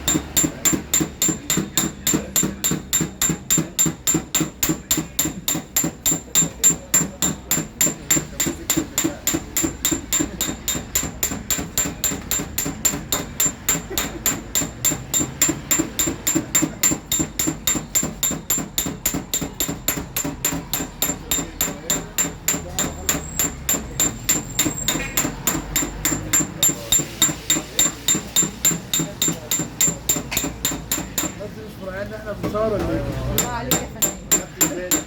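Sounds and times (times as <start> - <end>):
small hammer tapping sheet metal: 0.0 - 31.5, 33.3 - 35.0.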